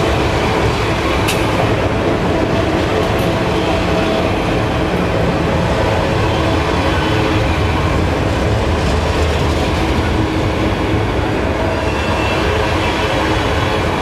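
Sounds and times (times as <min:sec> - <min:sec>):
diesel locomotive engines humming: 0:00.0 - 0:14.0
wheels rumbling on rail: 0:00.0 - 0:14.0.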